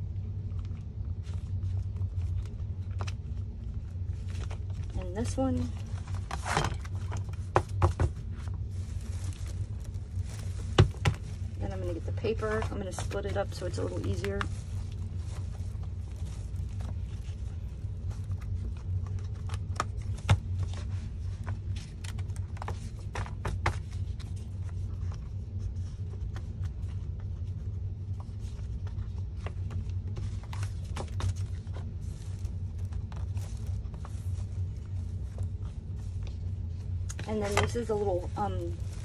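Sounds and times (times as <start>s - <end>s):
steady low hum: 0.0s - 39.0s
paper handling: 0.4s - 39.0s.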